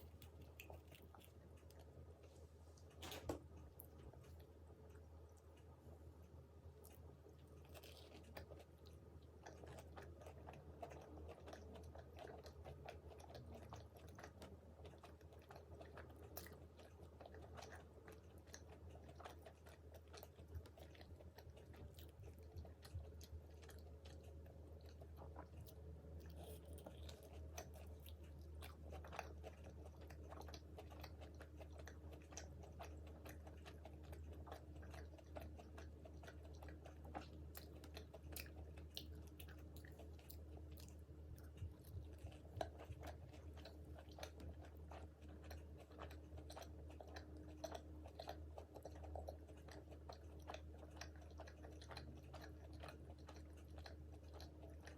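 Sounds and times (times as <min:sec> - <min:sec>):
crunchy chewing of fried food: 0:00.0 - 0:54.9.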